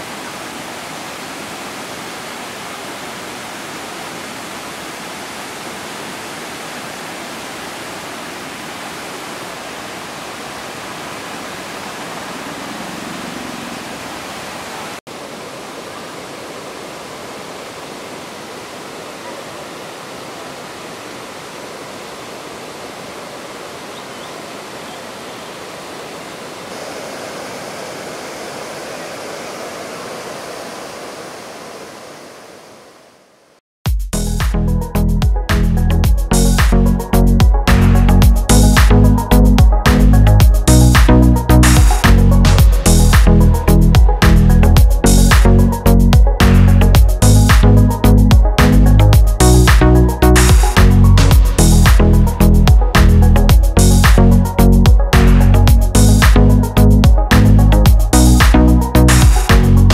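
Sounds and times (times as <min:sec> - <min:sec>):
waterfall rushing: 0:00.0 - 0:33.5, 0:37.6 - 0:59.9.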